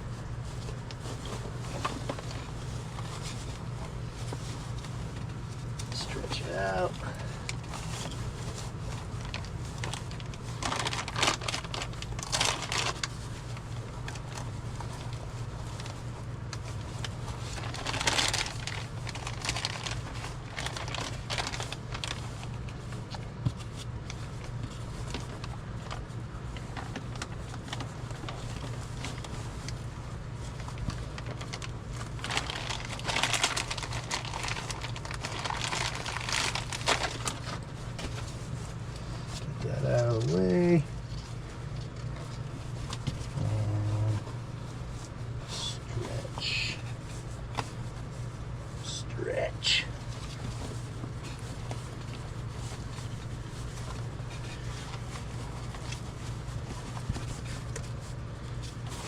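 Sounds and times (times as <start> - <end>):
plastic sheeting crinkling: 0.0 - 49.0, 49.6 - 59.0
steady low hum: 0.0 - 59.0.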